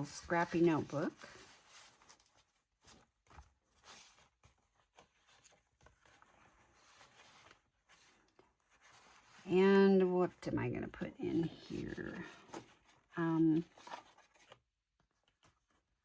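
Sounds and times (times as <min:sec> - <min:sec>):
paper rustling: 0:00.0 - 0:09.9, 0:11.4 - 0:16.0.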